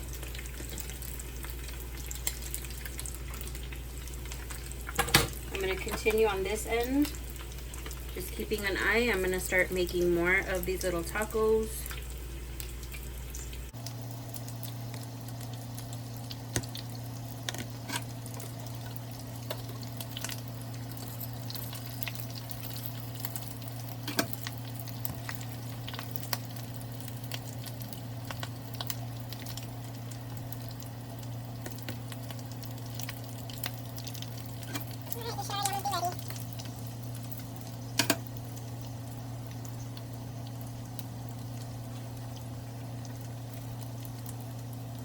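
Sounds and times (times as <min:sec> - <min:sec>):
food sizzling in hot oil: 0:00.0 - 0:45.0
oil popping and crackling: 0:00.0 - 0:45.0.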